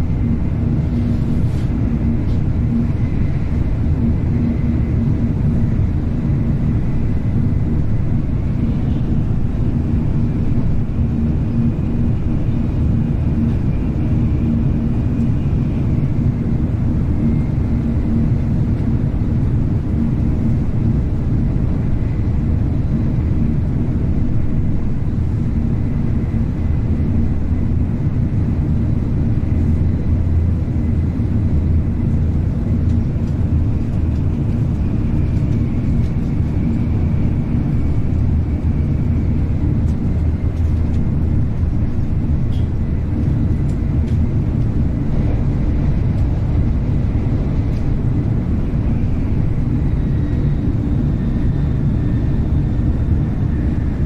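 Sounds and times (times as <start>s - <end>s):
train rumble inside cabin: 0.0s - 54.0s.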